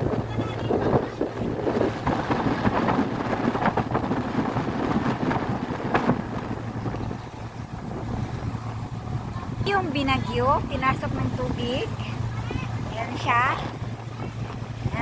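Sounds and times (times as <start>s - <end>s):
boat engine hum: 0.0s - 15.0s
wind buffeting microphone: 0.0s - 15.0s.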